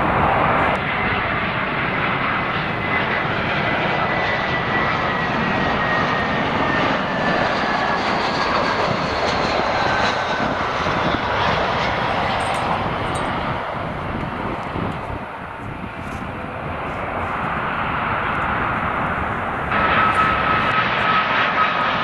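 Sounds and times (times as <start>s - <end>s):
jet engines rushing and whining: 0.0s - 22.0s.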